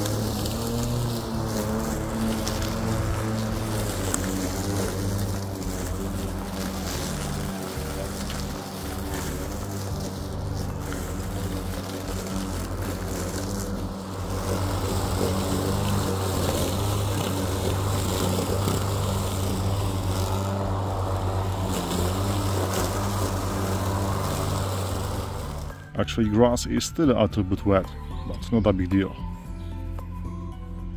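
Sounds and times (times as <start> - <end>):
electric lawn mower humming: 0.0 - 30.9.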